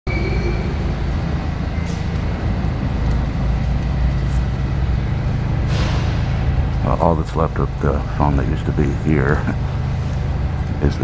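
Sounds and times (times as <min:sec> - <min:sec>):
subway train rumbling: 0:00.1 - 0:11.0.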